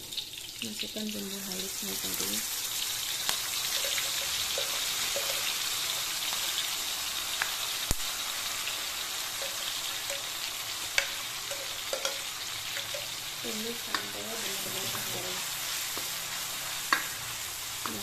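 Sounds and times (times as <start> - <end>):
spice paste sizzling in oil: 0.0 - 18.0.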